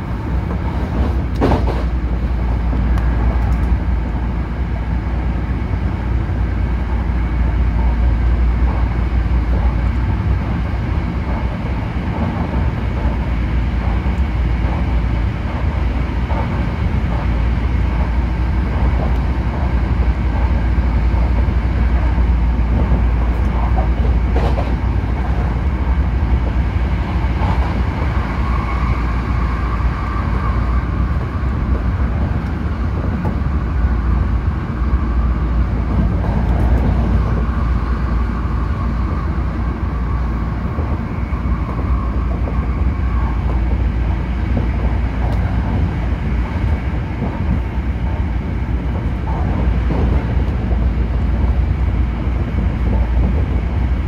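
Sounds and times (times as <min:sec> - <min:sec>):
train wheels rumbling on track: 0:00.0 - 0:54.0
train whine: 0:00.0 - 0:54.0.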